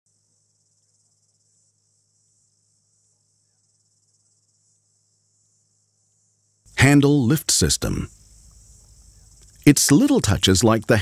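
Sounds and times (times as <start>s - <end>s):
high-pitched hiss with flutter: 0.1s - 11.0s
faint low hum: 0.3s - 11.0s.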